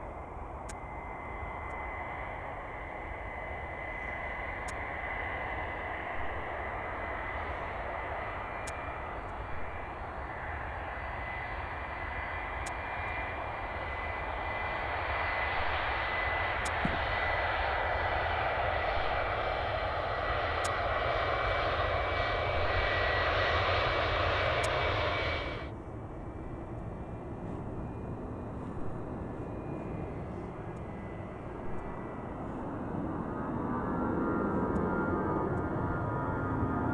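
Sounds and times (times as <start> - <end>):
faint aircraft noise: 0.0 - 36.9
jet engines whining: 0.0 - 36.9.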